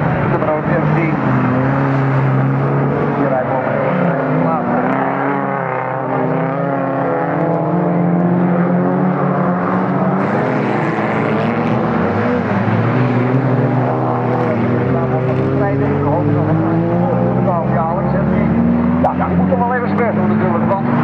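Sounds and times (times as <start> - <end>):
race car engines running hard: 0.0 - 21.0.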